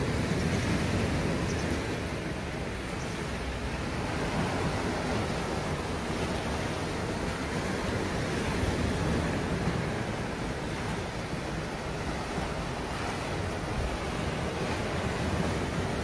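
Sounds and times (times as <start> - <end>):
surf washing over pebbles: 0.0 - 16.0.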